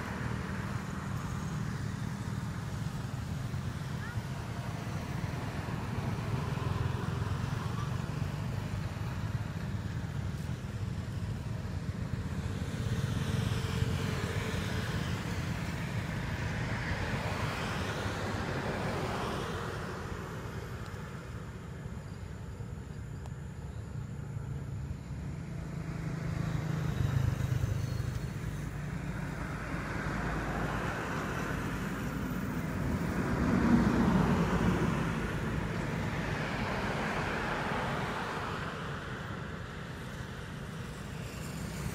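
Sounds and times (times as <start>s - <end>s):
motorbikes passing: 0.0s - 22.8s, 23.6s - 41.9s
cars passing: 0.0s - 41.9s
low traffic rumble: 0.0s - 41.9s.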